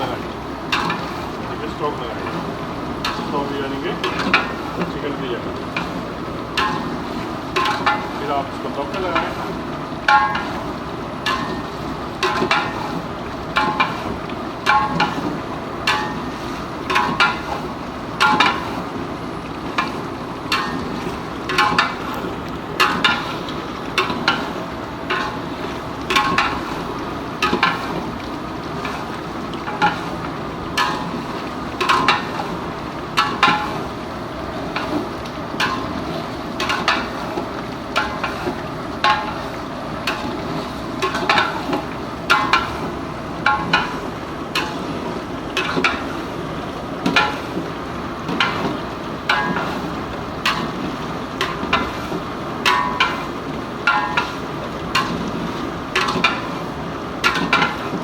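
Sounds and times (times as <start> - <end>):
frying sizzle in oil: 0.0 - 58.0.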